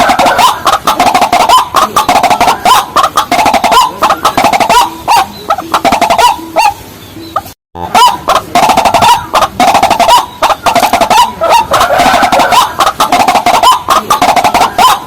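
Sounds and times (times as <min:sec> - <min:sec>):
overlapping birds: 0:00.0 - 0:15.0
rails calling: 0:00.0 - 0:15.0.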